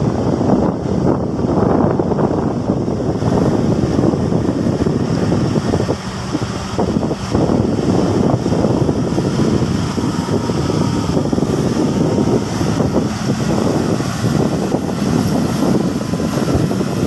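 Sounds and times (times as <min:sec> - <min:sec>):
truck diesel engine running: 0:00.0 - 0:17.0
wind buffeting microphone: 0:00.0 - 0:17.0.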